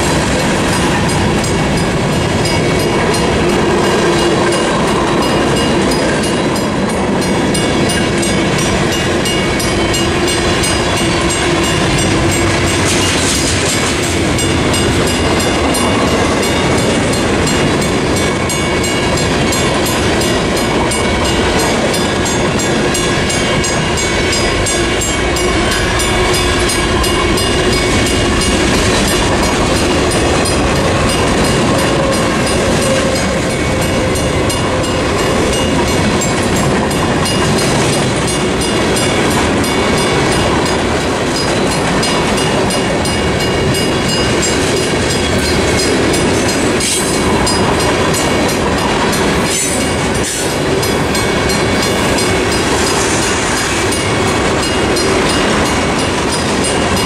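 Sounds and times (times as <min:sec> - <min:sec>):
crossing bell ringing: 0:00.0 - 0:57.0
train wheels rumbling on rails: 0:00.0 - 0:57.0.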